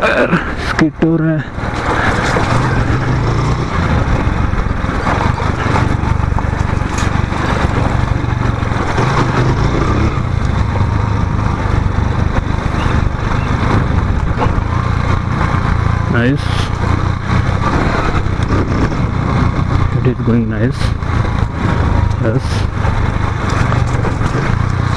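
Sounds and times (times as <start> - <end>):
road noise: 0.0 - 24.9
motorcycle engine running: 1.4 - 24.9
wind noise: 1.5 - 24.9.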